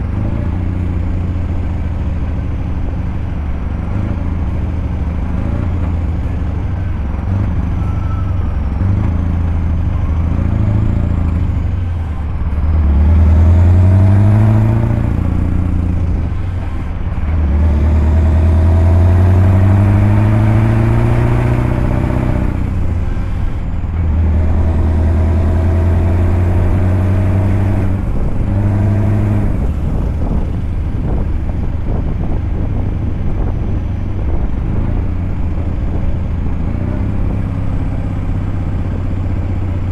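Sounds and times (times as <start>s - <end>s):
truck diesel engine shifting gears: 0.0s - 39.9s.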